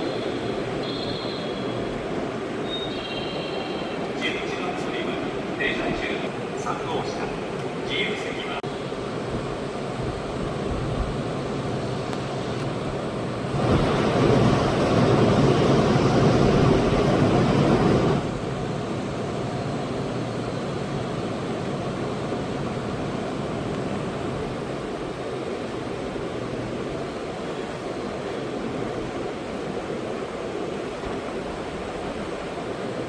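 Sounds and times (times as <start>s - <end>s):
train rolling and air noise: 0.0s - 33.0s.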